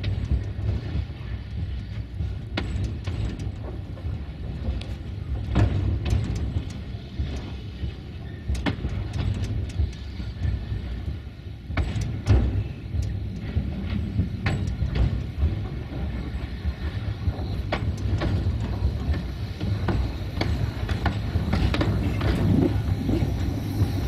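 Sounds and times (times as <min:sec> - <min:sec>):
clicks and knocks from wheels: 0:00.0 - 0:07.6, 0:08.4 - 0:24.0
rumble of wheels on rail: 0:00.0 - 0:24.0.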